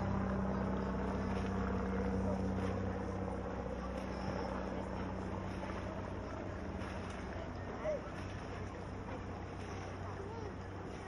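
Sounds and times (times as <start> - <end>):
low mechanical hum: 0.0 - 11.0
outdoor background noise: 0.0 - 11.0.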